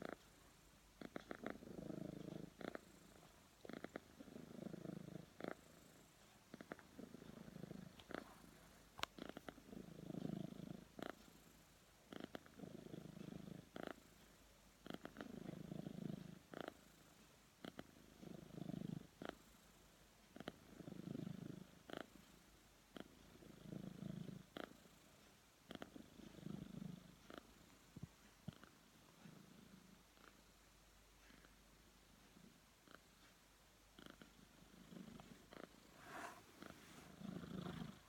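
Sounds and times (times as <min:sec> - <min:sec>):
cat snoring: 0:00.0 - 0:14.2, 0:14.8 - 0:30.4, 0:31.2 - 0:31.6, 0:34.0 - 0:38.0.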